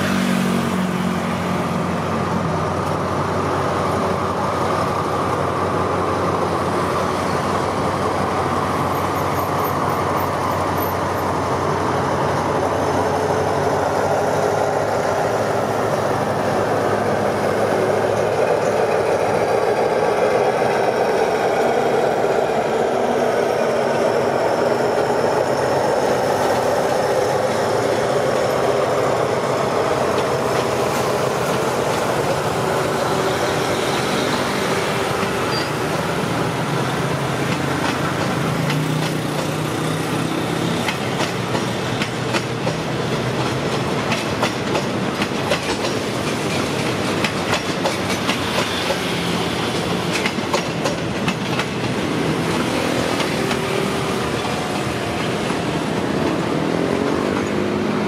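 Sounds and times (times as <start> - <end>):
diesel locomotive engine droning: 0.0 - 58.0
train wheels clicking over rail joints: 6.4 - 57.9.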